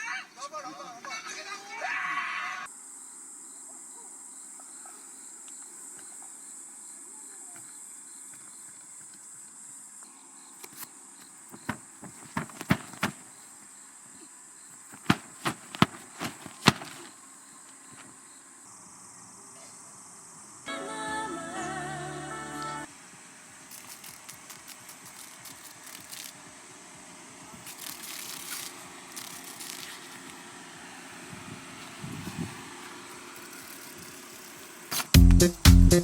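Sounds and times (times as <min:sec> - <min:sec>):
insects chirring: 0:01.1 - 0:35.2.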